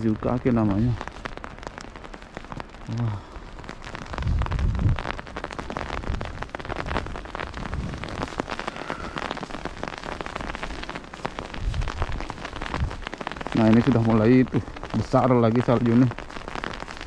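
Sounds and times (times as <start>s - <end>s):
snow ticking on an umbrella: 0.0s - 17.0s.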